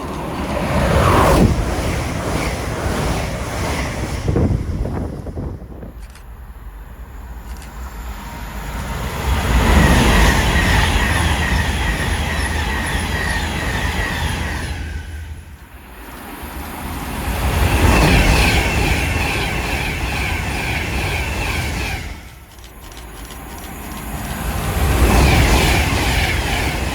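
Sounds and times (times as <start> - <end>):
train passing with rumble: 0.0 - 26.9.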